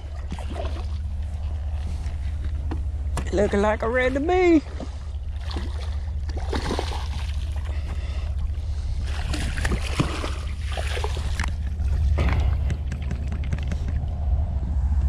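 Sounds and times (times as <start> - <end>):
boat engine low rumble: 0.0 - 15.0.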